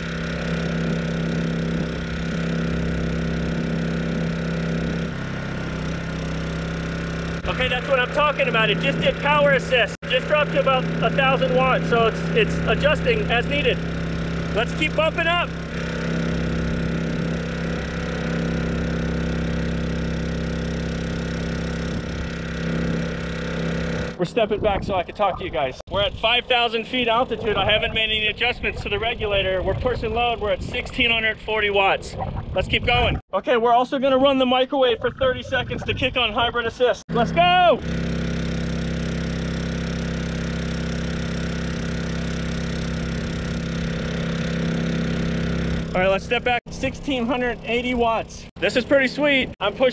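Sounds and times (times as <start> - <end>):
generator engine humming: 0.0 - 33.2, 34.2 - 49.9.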